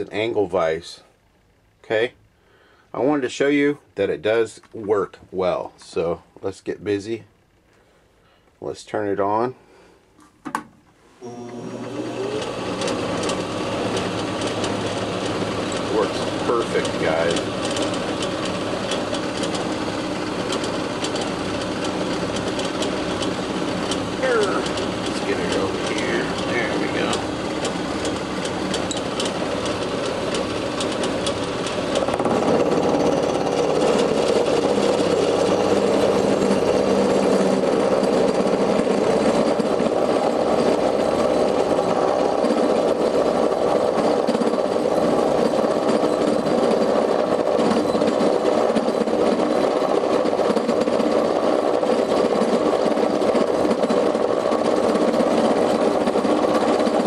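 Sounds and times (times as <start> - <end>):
milling machine motor running: 11.2 - 57.0.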